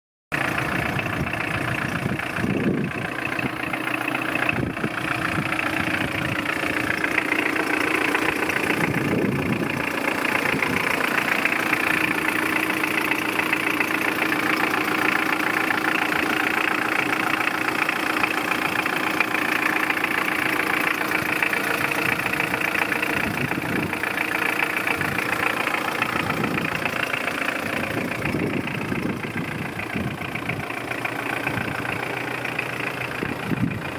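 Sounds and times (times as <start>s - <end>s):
pickup engine idling: 0.3s - 33.9s.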